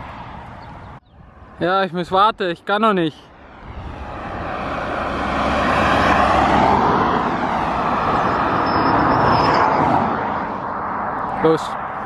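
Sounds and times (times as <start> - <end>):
cars passing at speed: 0.0 - 1.8, 3.1 - 12.0.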